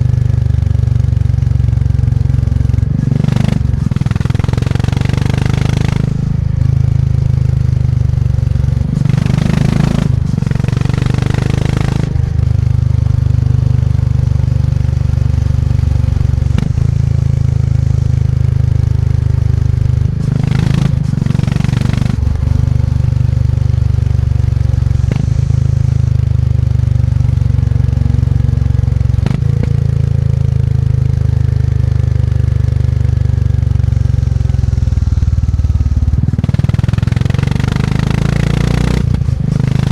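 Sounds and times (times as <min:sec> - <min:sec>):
motorcycle engine running: 0:00.0 - 0:39.9
rushes of wind or road noise: 0:00.0 - 0:39.9.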